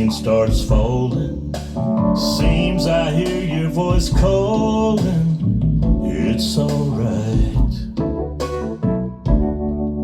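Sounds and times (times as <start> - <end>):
blues music over loudspeakers: 0.0 - 10.0.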